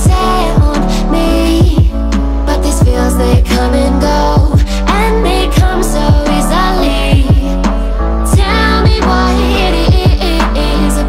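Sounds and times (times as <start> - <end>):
music with deep bass beat: 0.0 - 11.0.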